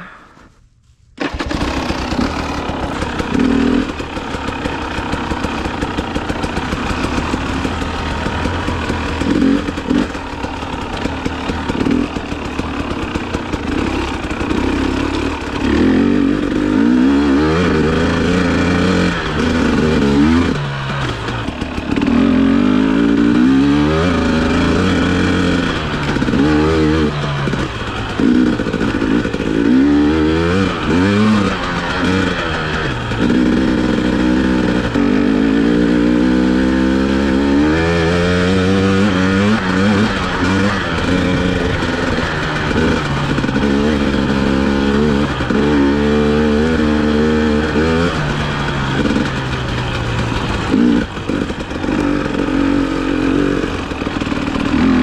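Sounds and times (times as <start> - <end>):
dirt bike engine revving: 1.2 - 55.0.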